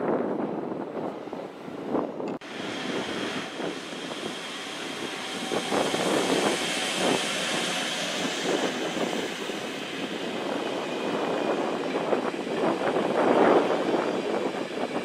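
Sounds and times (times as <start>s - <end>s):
train wheels rumbling on rails: 2.0s - 15.0s.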